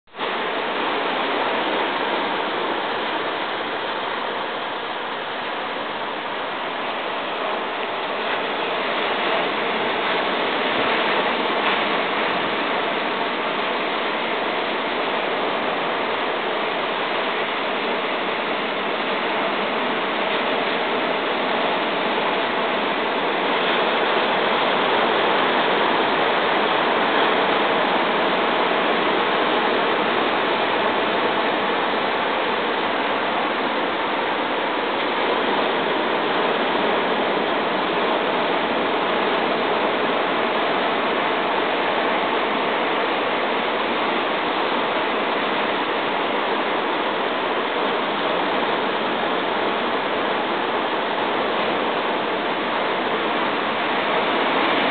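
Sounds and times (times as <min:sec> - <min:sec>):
ocean surf breaking on a beach: 0:00.1 - 0:54.9.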